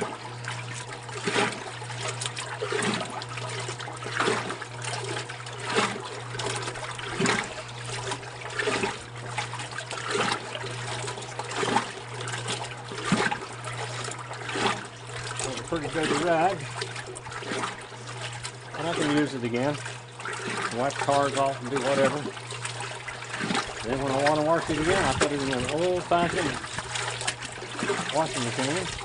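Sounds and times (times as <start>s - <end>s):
washing machine motor hum: 0.0s - 29.0s
water swishing in tub: 0.0s - 29.0s
water trickling: 0.0s - 29.0s.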